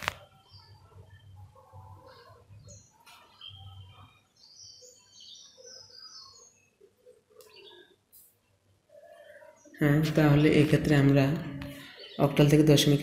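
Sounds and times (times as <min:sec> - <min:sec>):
faint birds twittering: 0:00.0 - 0:13.0.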